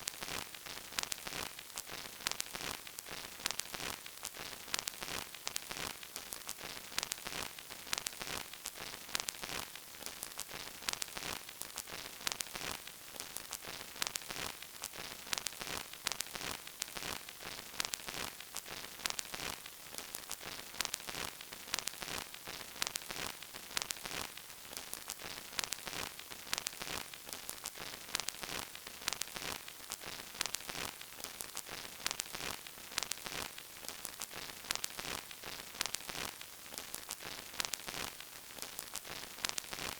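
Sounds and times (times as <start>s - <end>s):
vinyl record crackle: 0.0s - 39.9s.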